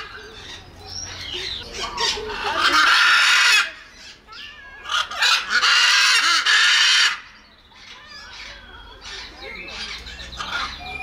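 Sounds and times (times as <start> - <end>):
macaw squawking: 0.0 - 11.0
parrot chatter: 0.0 - 11.0.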